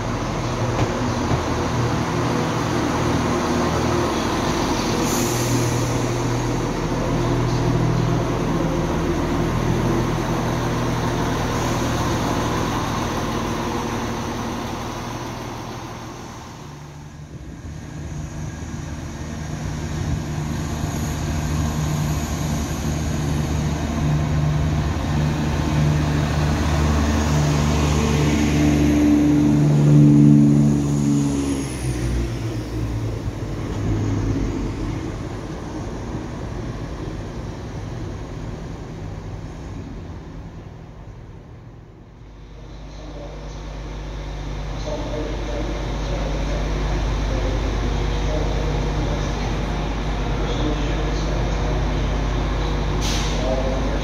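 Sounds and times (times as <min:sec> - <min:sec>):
diesel train engine: 0:00.0 - 0:54.0.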